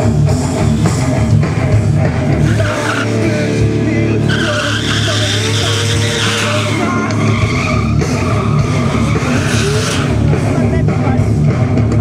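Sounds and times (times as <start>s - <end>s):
tyres skidding and squealing: 0.0s - 11.8s
motorcycle engine revving: 0.0s - 12.0s.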